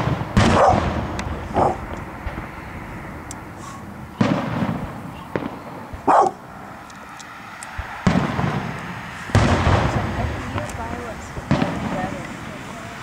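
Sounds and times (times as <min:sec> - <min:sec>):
firework crack: 0:00.0 - 0:13.0
firework shells booming: 0:00.0 - 0:13.0.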